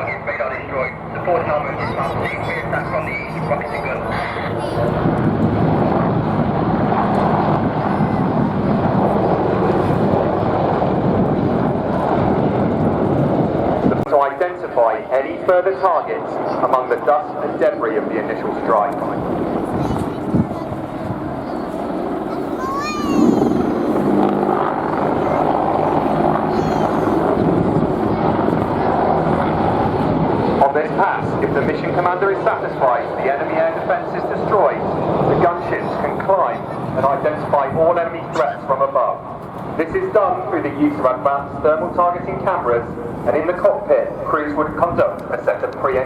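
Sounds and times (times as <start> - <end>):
helicopters flying low: 0.0 - 46.0.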